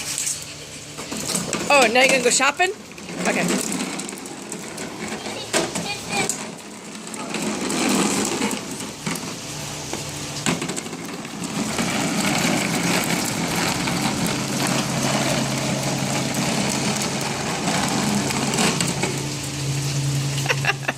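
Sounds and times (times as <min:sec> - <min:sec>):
rain falling: 0:01.3 - 0:20.9.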